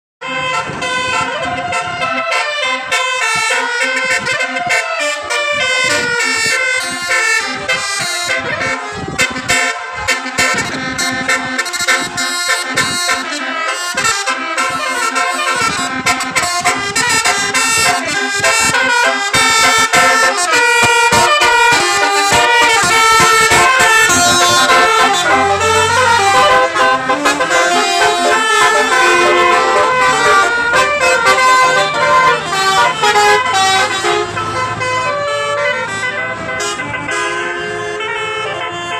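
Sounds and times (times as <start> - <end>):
musical bus horn melody: 0.2 - 38.9.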